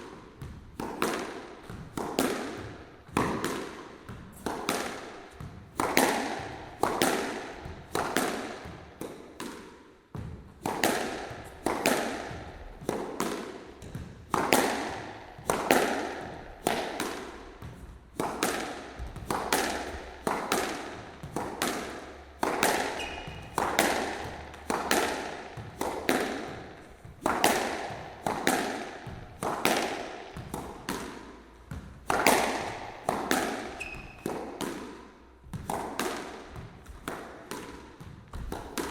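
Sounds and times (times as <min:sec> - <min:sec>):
squash ball hits: 0:00.0 - 0:38.9.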